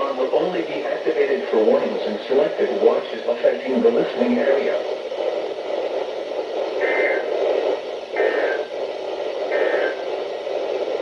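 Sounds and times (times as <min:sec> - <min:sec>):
radio static hiss: 0:00.0 - 0:11.0
warbling data bursts: 0:00.0 - 0:11.0.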